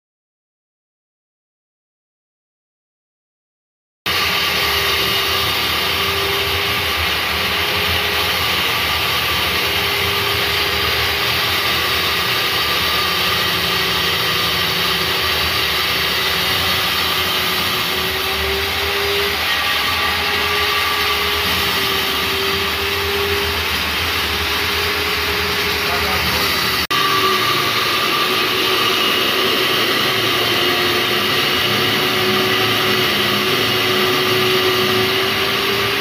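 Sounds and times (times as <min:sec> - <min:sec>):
electric core drill running: 0:04.1 - 0:36.0.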